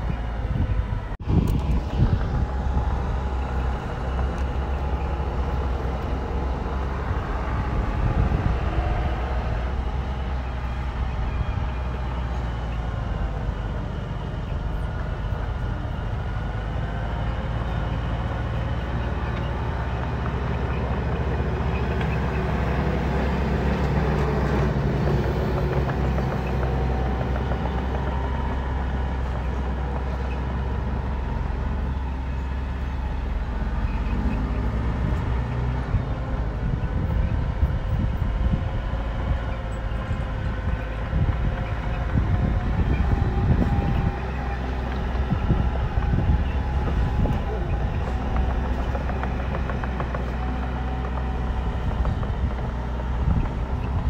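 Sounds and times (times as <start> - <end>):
diesel engines rumbling: 0.0 - 54.0.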